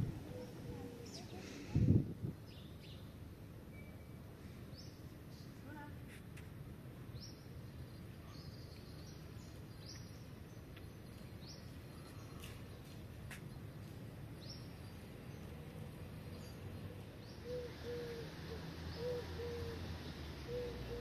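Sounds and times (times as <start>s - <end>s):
background noise: 0.0s - 21.0s.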